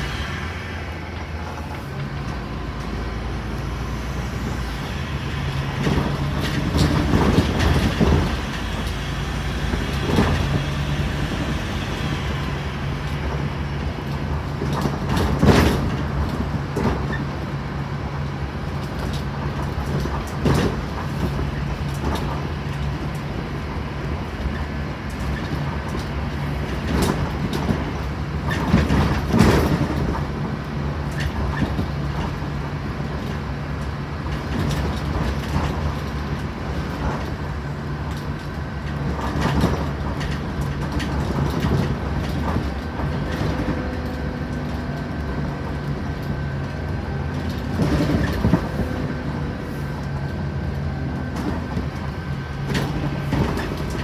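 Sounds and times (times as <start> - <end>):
bus diesel engine drone: 0.0 - 54.0
rattles and knocks from bus body: 4.8 - 54.0.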